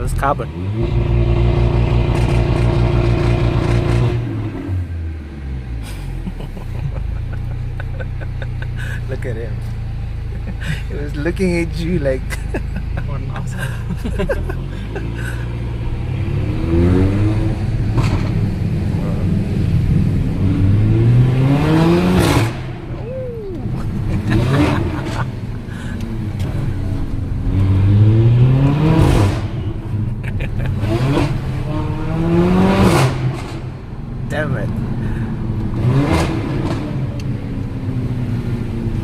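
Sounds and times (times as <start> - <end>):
car engine accelerating hard: 0.0 - 39.0
exhaust cracking: 5.9 - 37.3.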